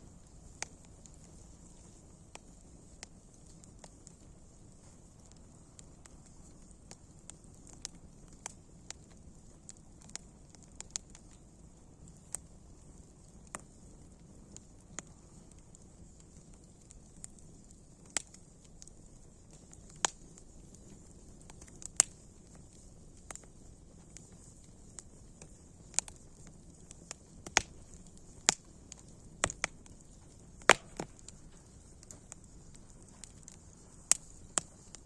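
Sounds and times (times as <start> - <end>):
campfire crackling and popping: 0.0 - 35.0
faint steady hiss: 0.0 - 35.0.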